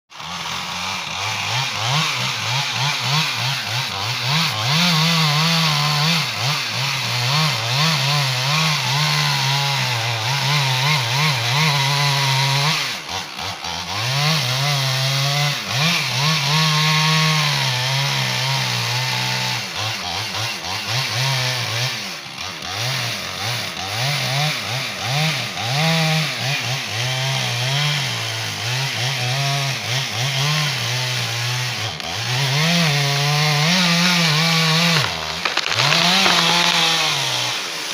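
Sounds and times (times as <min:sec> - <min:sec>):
chainsaw cutting tree: 0:00.1 - 0:37.9.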